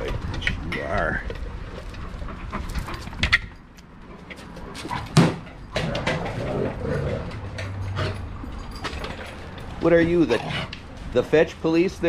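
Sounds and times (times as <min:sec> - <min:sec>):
dogs playing and moving: 0:00.0 - 0:12.0.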